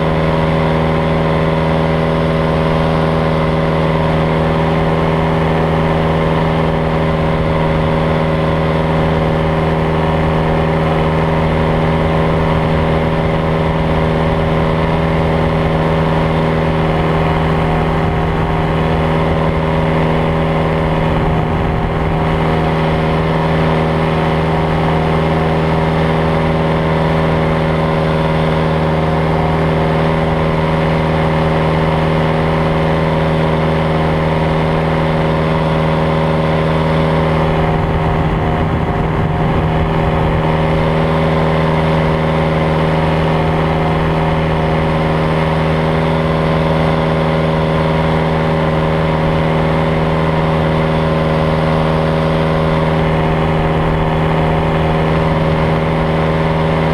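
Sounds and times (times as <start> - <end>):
paramotor engine and propeller drone: 0.0 - 56.9.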